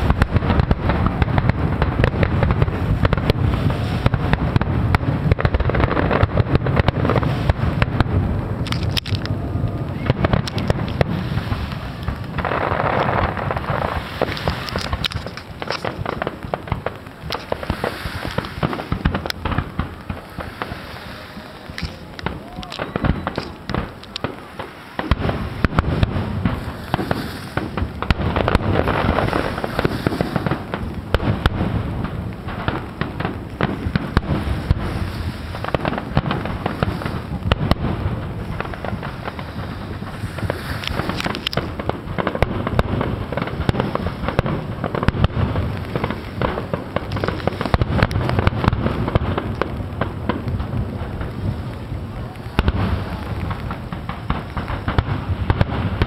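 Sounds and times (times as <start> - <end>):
fireworks exploding: 0.0 - 56.0.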